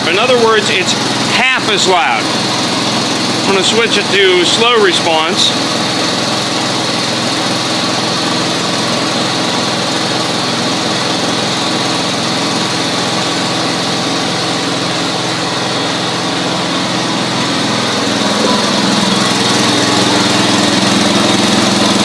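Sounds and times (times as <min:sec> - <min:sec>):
garden tractor engine running: 0:00.0 - 0:22.0.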